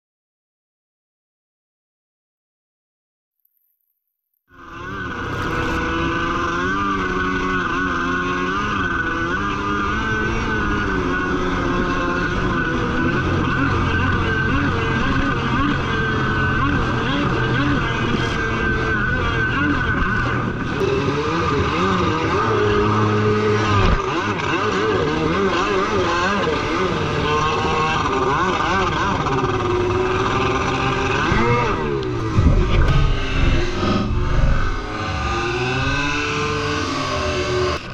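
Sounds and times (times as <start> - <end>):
jet ski engine running: 4.5 - 37.9.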